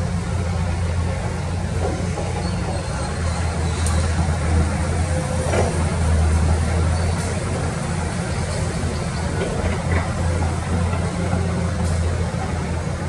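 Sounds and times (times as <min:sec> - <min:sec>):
excavator diesel engines droning: 0:00.0 - 0:13.0.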